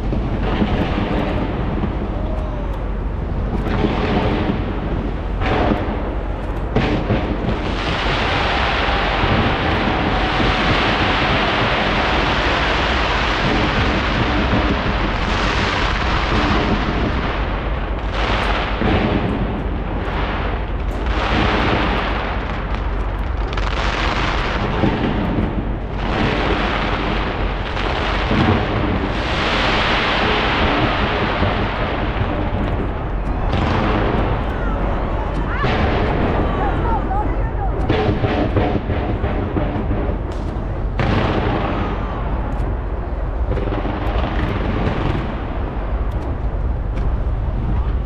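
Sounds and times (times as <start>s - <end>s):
fireworks bangs and crackle: 0.0s - 48.0s
scattered pops: 0.0s - 48.0s.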